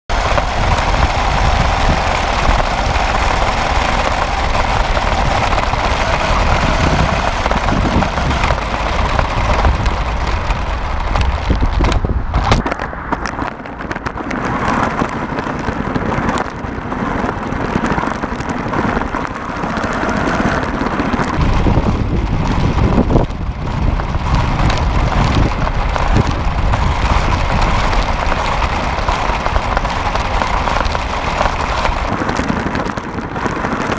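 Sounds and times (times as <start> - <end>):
road and wind noise: 0.0 - 33.9.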